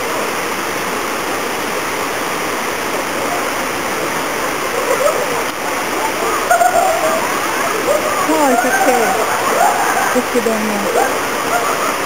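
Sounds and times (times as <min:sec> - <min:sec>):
water pouring down a waterfall: 0:00.0 - 0:12.0.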